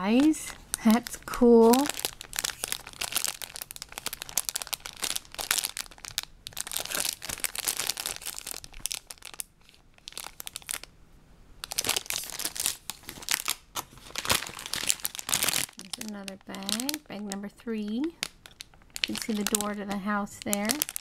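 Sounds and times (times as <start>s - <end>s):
plastic bags crinkling: 0.0s - 10.9s, 11.6s - 21.0s.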